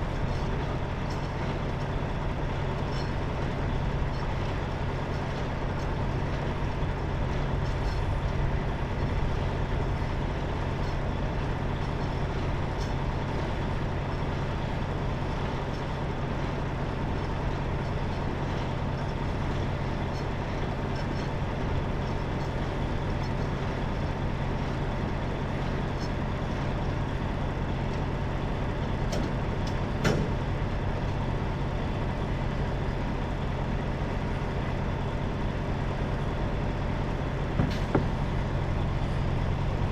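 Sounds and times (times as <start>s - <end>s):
diesel truck engine humming: 0.0s - 39.9s.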